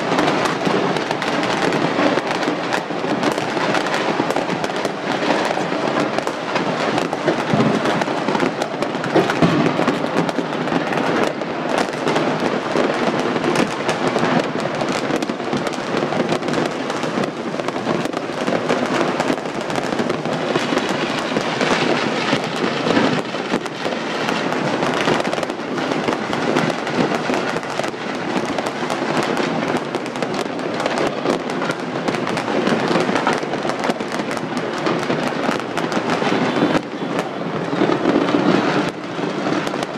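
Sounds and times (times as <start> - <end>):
fireworks and firecrackers crackling: 0.0 - 39.9.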